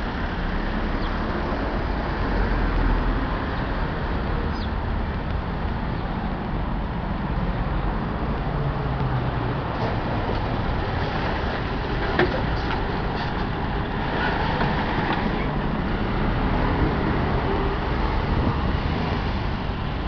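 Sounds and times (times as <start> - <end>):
road traffic passing: 0.0 - 20.0
truck passing close: 0.0 - 20.0.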